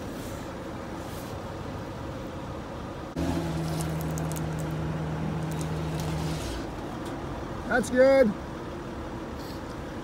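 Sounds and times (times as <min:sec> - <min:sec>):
vehicle engine low hum: 0:00.0 - 0:10.0.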